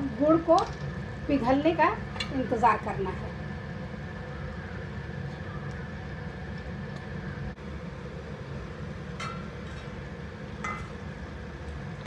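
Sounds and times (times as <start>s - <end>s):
gas burner rumble: 0.0s - 12.0s.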